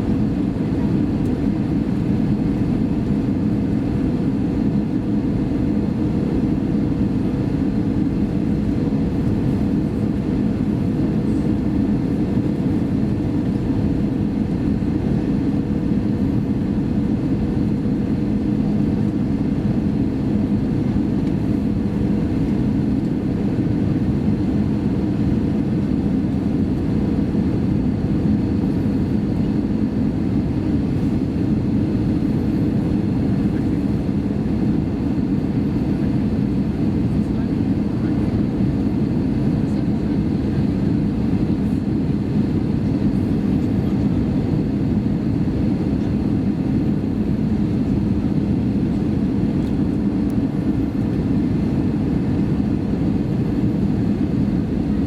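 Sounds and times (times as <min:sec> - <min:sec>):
airplane cabin engine rush: 0:00.0 - 0:55.0.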